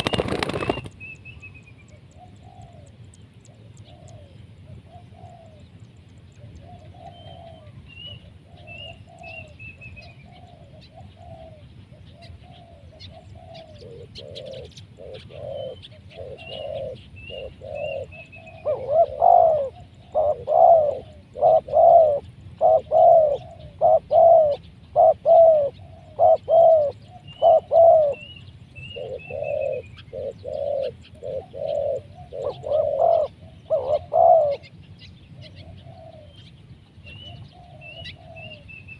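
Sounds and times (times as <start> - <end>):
doves cooing: 0.0 - 1.0, 1.9 - 34.8, 35.4 - 38.9.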